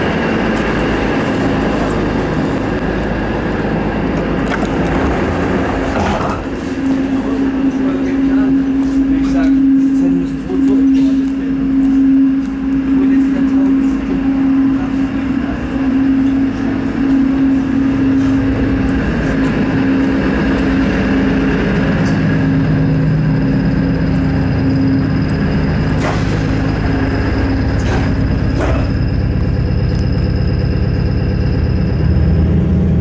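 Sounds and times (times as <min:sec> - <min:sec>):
railcar engine drone: 0:00.0 - 0:33.0.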